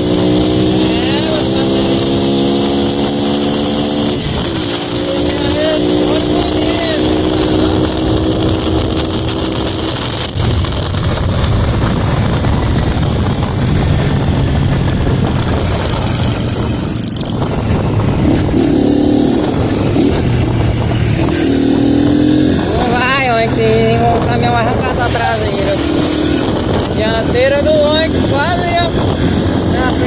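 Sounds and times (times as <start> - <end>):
motorcycle engine running: 0.0 - 30.0
wind and road noise: 0.0 - 30.0.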